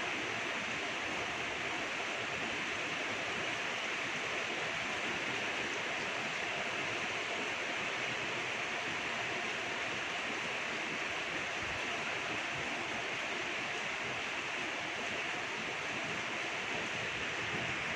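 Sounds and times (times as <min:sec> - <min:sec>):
steady rainfall: 0:00.0 - 0:17.9.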